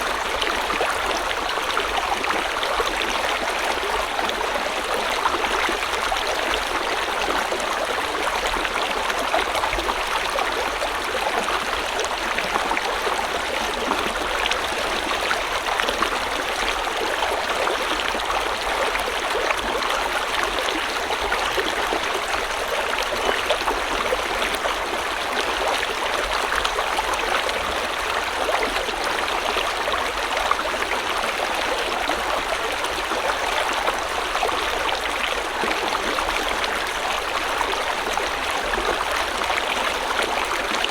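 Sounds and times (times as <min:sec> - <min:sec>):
river water over rocks: 0:00.0 - 0:40.9.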